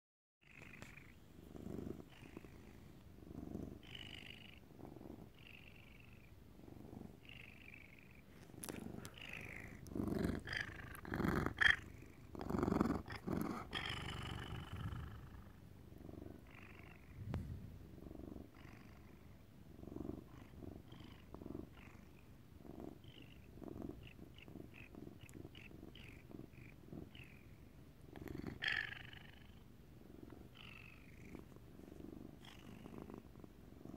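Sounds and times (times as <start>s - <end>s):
cat purring: 0.4s - 33.9s.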